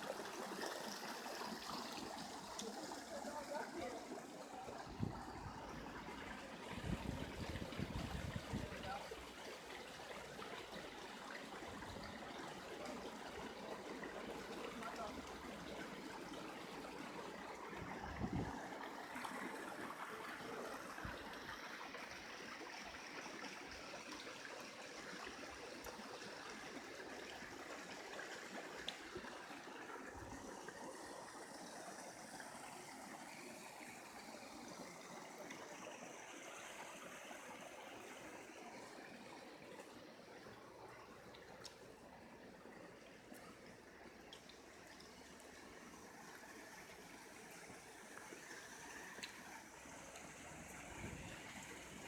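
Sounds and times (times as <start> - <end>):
spring water flowing: 0.0 - 52.0.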